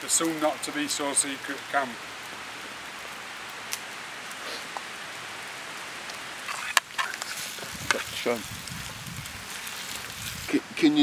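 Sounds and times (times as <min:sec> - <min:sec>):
campfire hissing: 0:00.0 - 0:11.0
fire crackles: 0:00.0 - 0:11.0.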